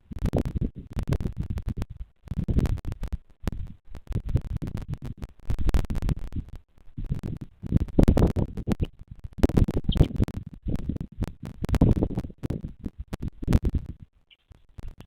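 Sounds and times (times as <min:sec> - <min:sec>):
scratching and crackling: 0:00.0 - 0:15.0.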